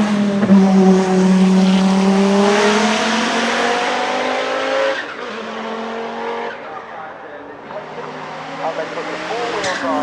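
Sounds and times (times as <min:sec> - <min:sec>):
race car engine revving: 0:00.0 - 0:10.0.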